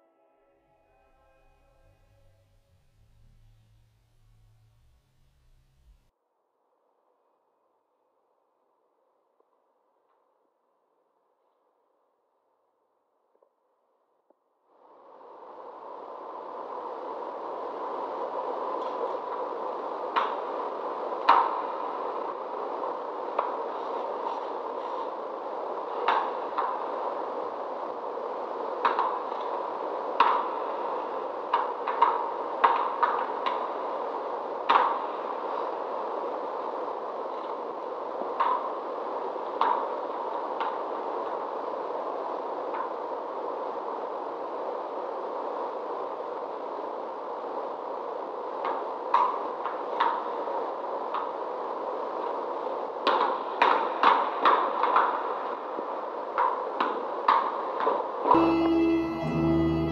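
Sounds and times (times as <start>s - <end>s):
faint hum: 0.0s - 6.1s, 14.7s - 59.9s
steady hiss: 0.1s - 6.1s, 14.8s - 59.9s.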